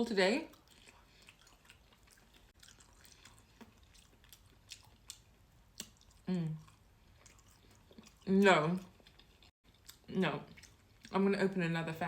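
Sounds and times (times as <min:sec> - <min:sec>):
close-miked chewing: 0:00.4 - 0:11.3.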